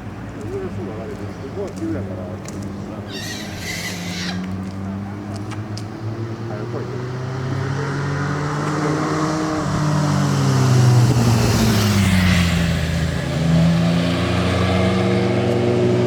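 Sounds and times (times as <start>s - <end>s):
vehicle passing by: 2.0s - 16.0s.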